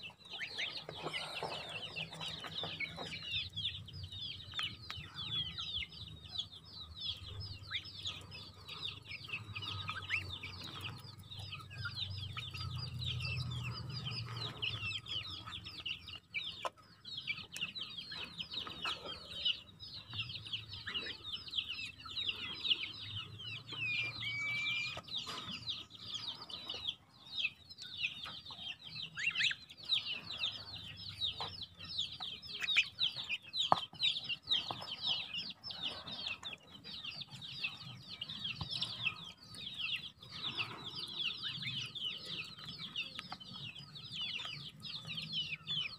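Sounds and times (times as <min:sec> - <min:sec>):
goslings peeping: 0:00.0 - 0:45.9.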